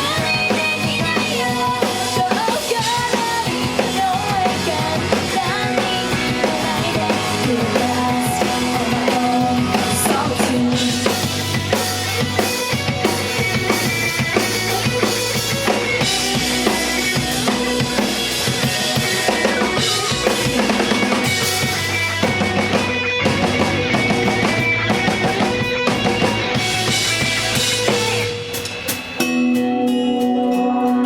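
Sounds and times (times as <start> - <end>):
pop song over stage speakers: 0.0 - 28.5, 29.4 - 31.0
drum kit: 0.0 - 31.0
guitar: 0.0 - 31.0.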